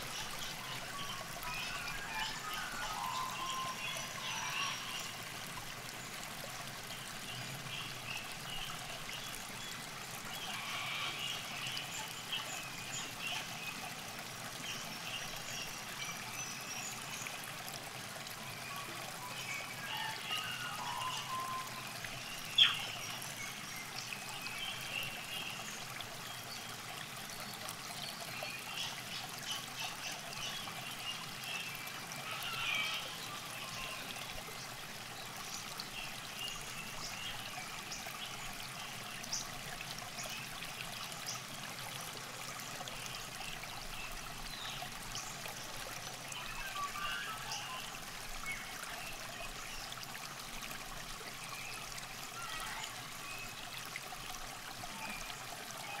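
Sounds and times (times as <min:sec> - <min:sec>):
river water trickling: 0:00.0 - 0:56.0.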